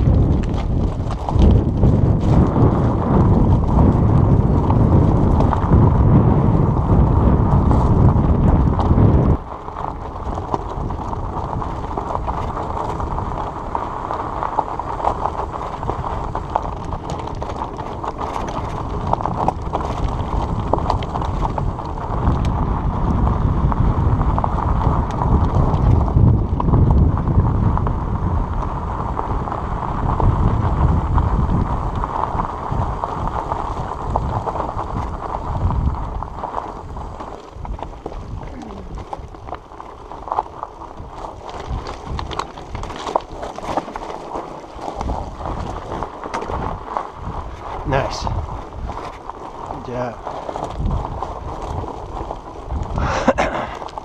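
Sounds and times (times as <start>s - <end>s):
heavy low rumble: 0.0s - 42.4s, 44.8s - 54.0s
bicycle rattling: 0.0s - 54.0s
tyres crunching on gravel: 0.0s - 54.0s
wind noise on microphone: 0.0s - 54.0s.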